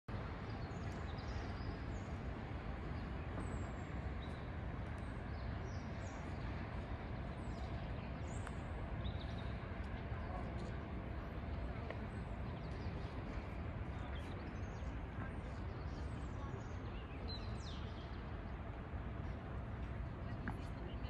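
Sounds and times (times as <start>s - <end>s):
low rumble of traffic: 0.1s - 21.0s.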